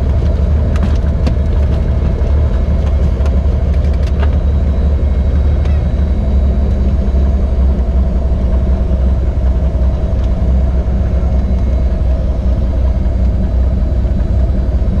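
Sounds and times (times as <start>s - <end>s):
propeller engine low drone: 0.0s - 15.0s.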